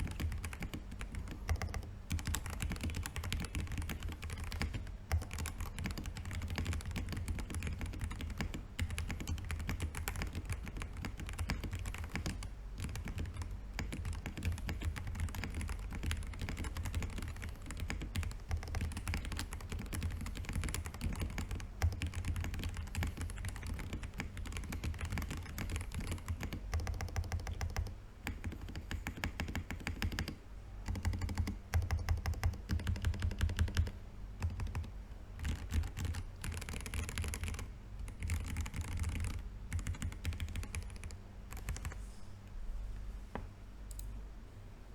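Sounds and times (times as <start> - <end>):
fast typing on mechanical keyboard: 0.0 - 42.0.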